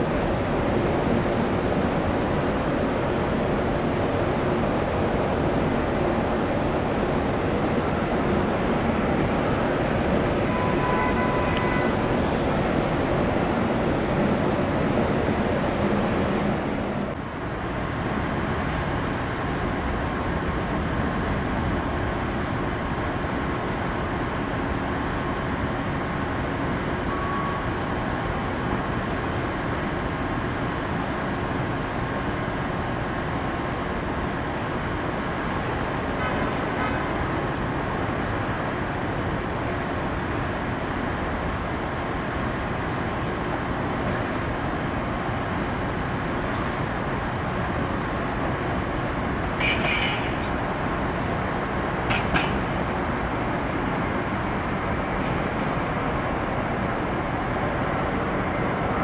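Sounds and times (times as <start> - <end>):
jet engine noise: 0.0 - 59.0.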